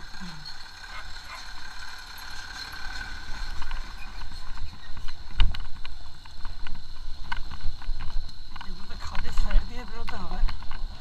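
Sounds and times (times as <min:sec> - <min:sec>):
knocks and rattles from bumps: 0:00.0 - 0:11.0
motorcycle engine and road rumble: 0:00.0 - 0:11.0
thin steady whine: 0:00.0 - 0:11.0.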